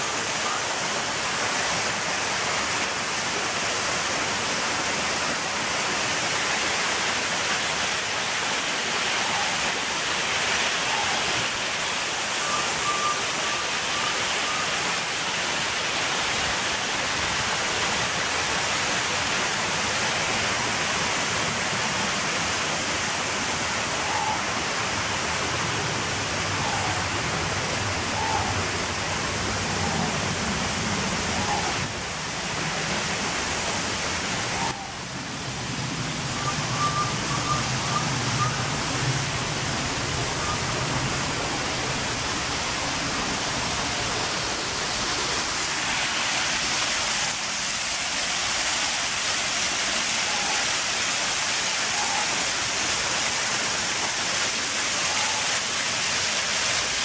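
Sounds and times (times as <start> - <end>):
steady rushing hiss: 0.0 - 57.0.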